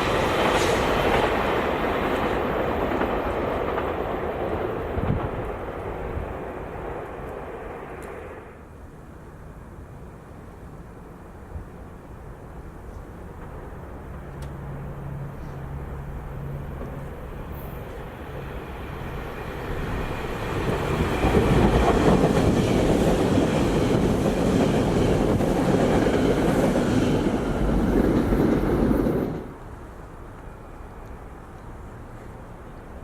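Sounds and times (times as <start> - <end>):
electric train passing: 0.0 - 33.0.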